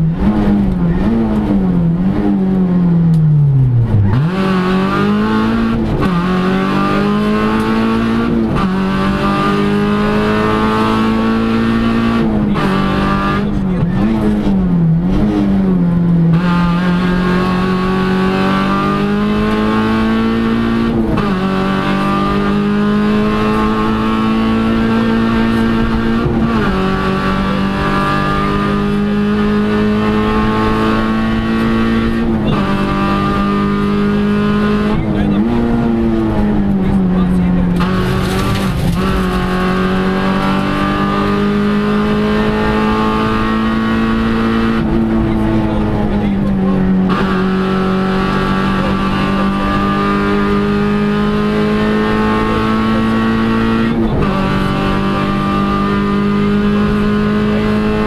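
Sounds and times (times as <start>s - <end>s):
rally car engine at high revs: 0.0s - 58.0s.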